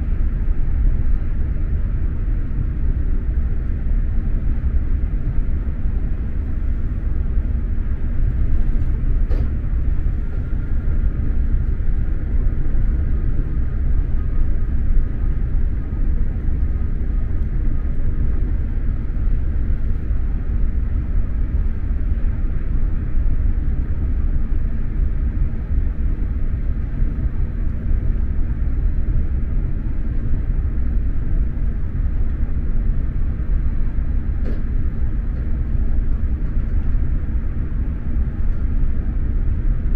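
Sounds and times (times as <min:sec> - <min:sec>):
faint steady hum: 0:00.0 - 0:39.9
train rumbling at speed: 0:00.0 - 0:39.9.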